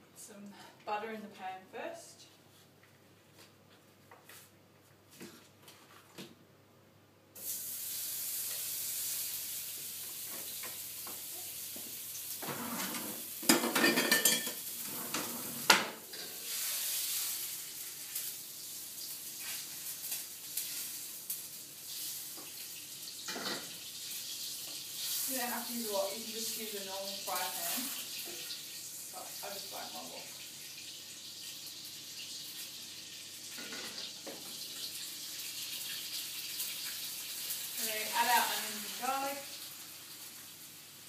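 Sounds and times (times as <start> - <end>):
butter sizzling in a wok: 7.4 - 41.0.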